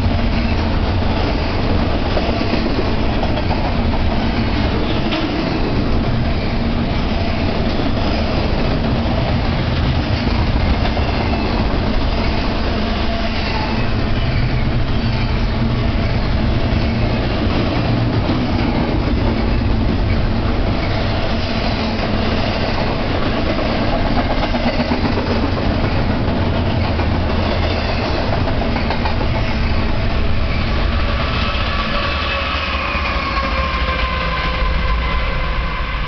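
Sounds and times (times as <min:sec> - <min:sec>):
diesel locomotive engine drone: 0:00.0 - 0:36.0
freight train wheels rumbling on rails: 0:00.0 - 0:36.0.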